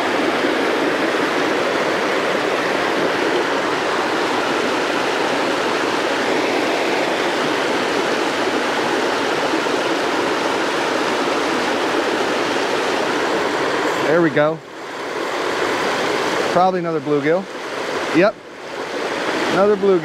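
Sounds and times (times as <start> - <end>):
water rushing over a dam: 0.0 - 20.0.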